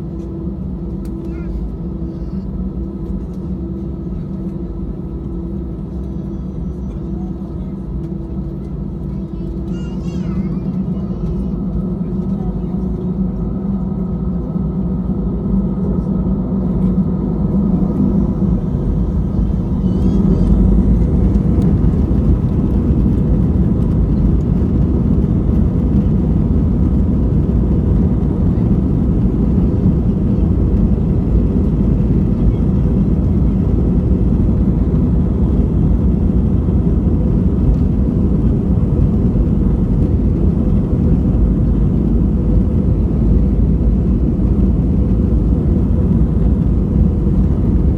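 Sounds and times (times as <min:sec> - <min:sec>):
airliner rolling on ground rumble: 0:00.0 - 0:47.9
jet engines: 0:00.0 - 0:47.9.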